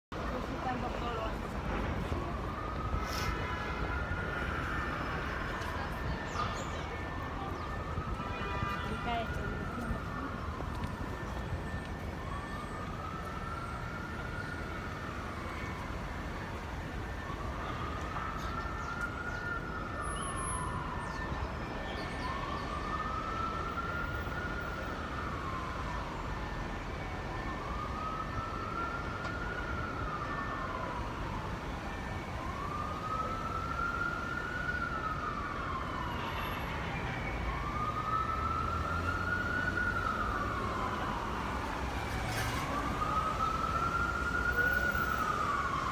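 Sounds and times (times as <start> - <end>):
street traffic noise: 0.1 - 45.9
emergency siren wailing: 0.2 - 45.9.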